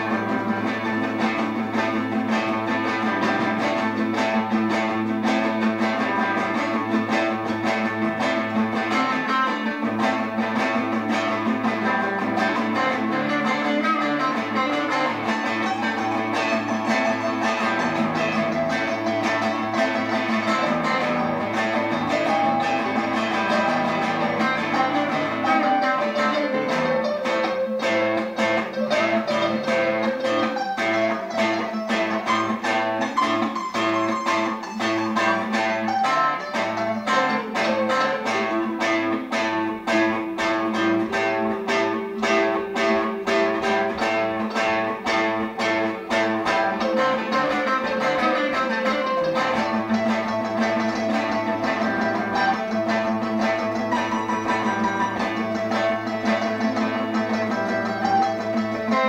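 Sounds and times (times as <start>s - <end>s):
guitars strumming chords: 0.0s - 59.0s.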